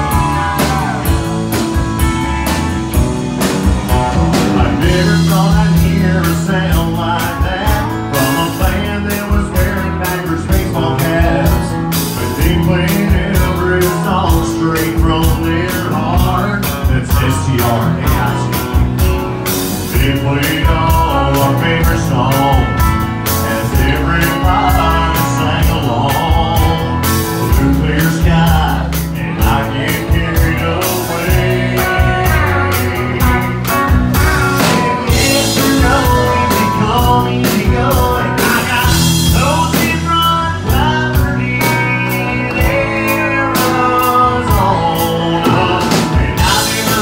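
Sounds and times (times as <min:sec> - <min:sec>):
man singing: 0:00.0 - 0:02.6, 0:04.3 - 0:47.0
country-rock band playing: 0:00.0 - 0:47.0
drum kit beat: 0:00.0 - 0:47.0.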